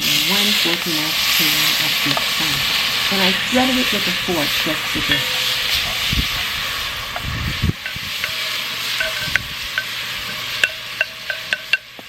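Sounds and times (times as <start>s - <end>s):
vegetables sizzling in oil: 0.0s - 12.0s
metal utensil scraping a pot: 2.1s - 11.9s.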